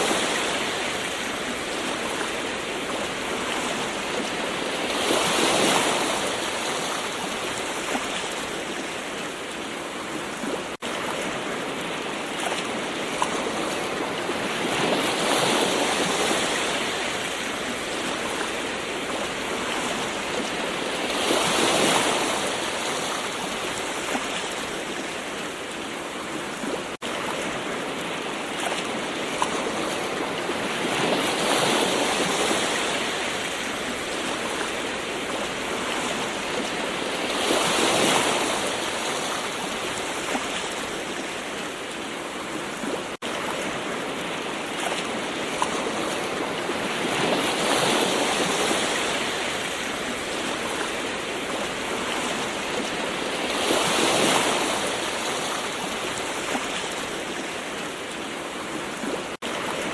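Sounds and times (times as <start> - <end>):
gentle ocean waves: 0.0 - 59.9.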